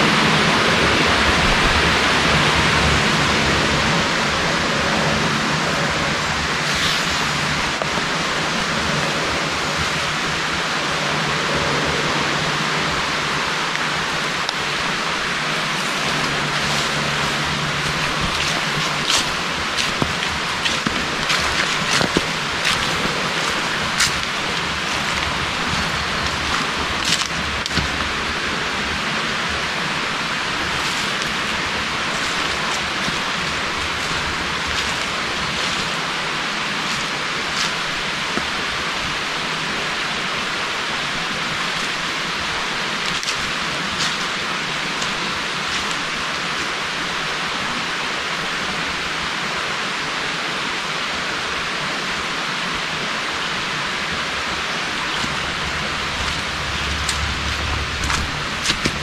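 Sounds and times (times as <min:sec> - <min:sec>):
rushing water hiss: 0:00.0 - 0:59.0.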